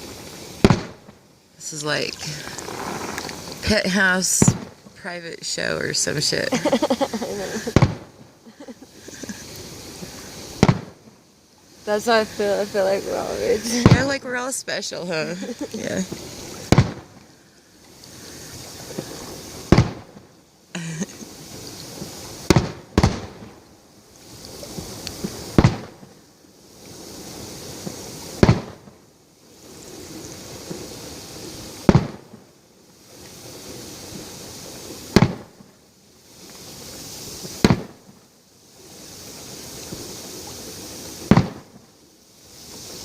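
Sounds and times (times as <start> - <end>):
firework bangs: 0.0 - 11.1, 11.8 - 14.5, 15.1 - 17.4, 18.2 - 23.6, 24.5 - 26.1, 26.9 - 29.0, 29.7 - 32.5, 33.1 - 35.7, 36.6 - 38.2, 38.8 - 41.8
hissing crackling firework tail: 0.0 - 43.0.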